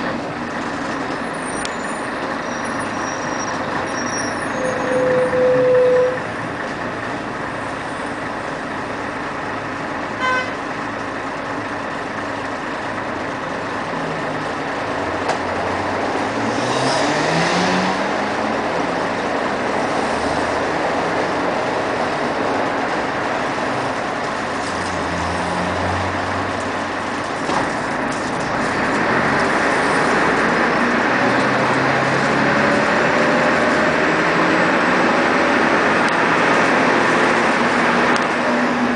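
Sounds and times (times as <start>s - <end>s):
bus diesel engine running: 0.0s - 16.5s, 17.8s - 38.9s.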